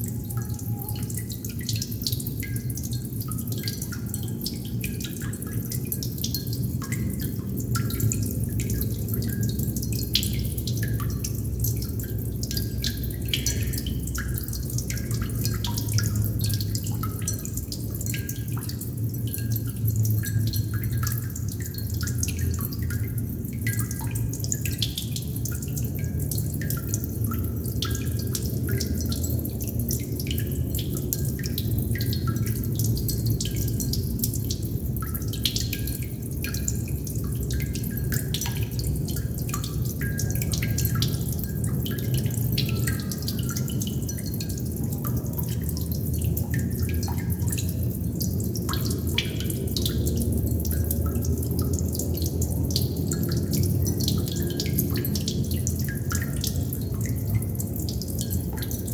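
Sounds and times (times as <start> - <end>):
low rumble of water: 0.0 - 58.9
water droplets plinking: 0.0 - 58.9.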